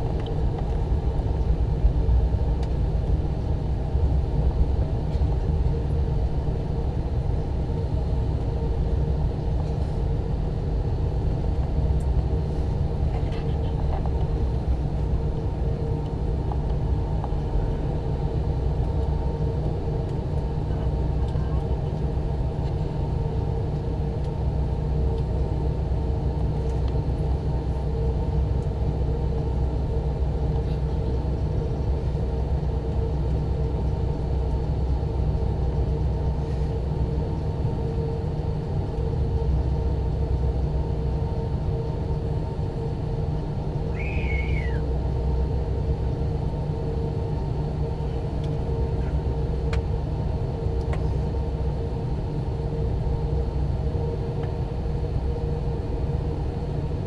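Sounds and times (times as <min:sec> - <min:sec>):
airliner engines idling: 0:00.0 - 0:57.0.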